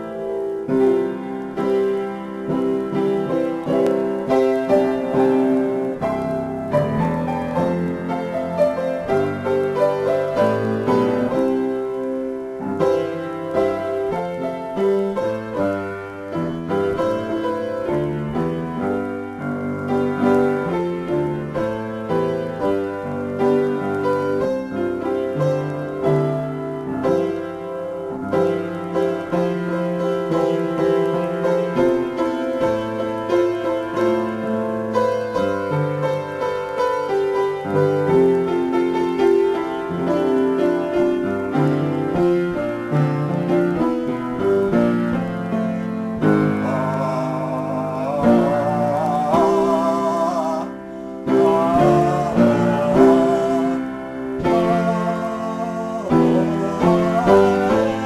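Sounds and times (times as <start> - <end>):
piano improvisation: 0.0 - 58.0.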